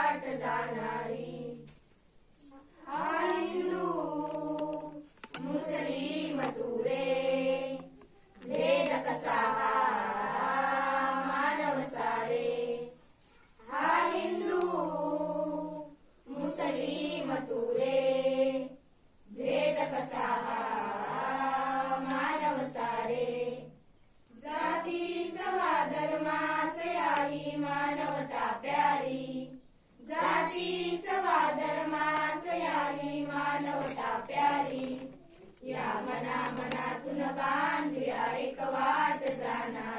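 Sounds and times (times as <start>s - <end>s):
girls singing together: 0.0s - 39.9s.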